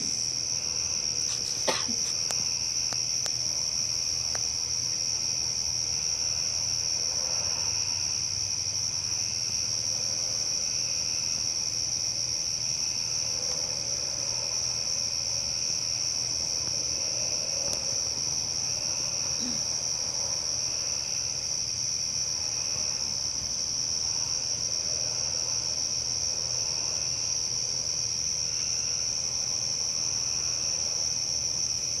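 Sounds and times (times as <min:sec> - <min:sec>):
high-pitched insect trill: 0:00.0 - 0:32.0
lower pulsing insect call: 0:00.0 - 0:32.0.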